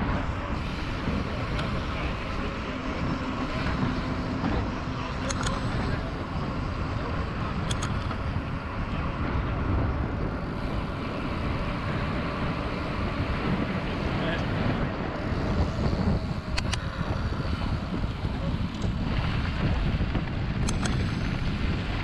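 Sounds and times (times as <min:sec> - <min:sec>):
bike tyre noise: 0:00.0 - 0:22.0
wind rushing on microphone: 0:00.0 - 0:22.0.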